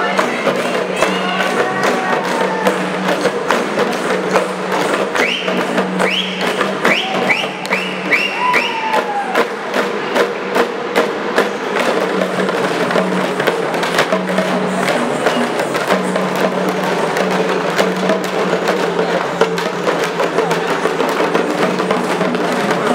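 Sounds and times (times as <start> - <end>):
frame drums beaten with sticks: 0.0 - 22.9.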